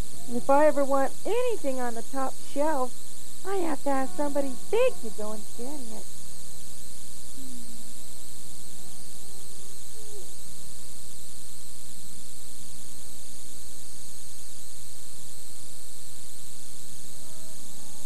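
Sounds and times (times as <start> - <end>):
electrical hum: 0.0 - 18.0
tape hiss: 0.0 - 18.0.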